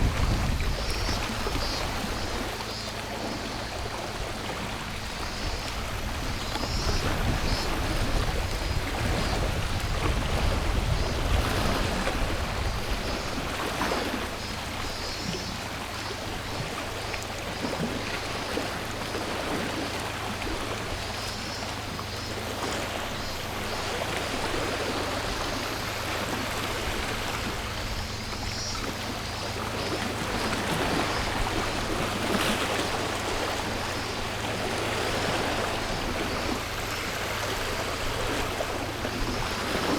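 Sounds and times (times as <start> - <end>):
cicadas buzzing: 0.0 - 39.9
sea waves on shore: 0.0 - 39.9.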